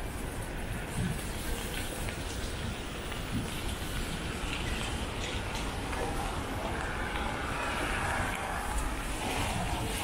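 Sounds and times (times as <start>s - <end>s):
rain hissing: 0.0s - 10.0s.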